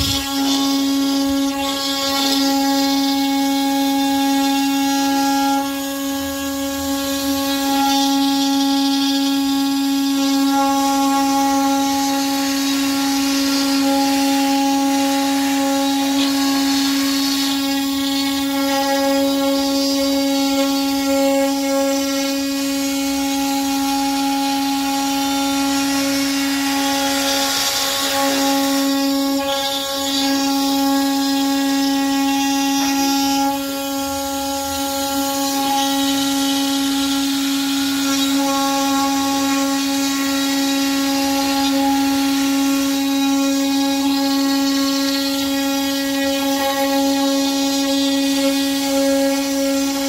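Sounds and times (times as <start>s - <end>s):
router cutting wood hiss: 0.0s - 50.0s
router spindle whine: 0.0s - 50.0s.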